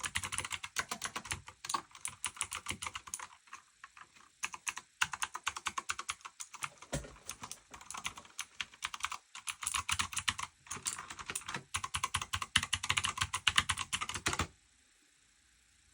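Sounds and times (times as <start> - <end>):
mechanical keyboard typing: 0.0 - 14.5.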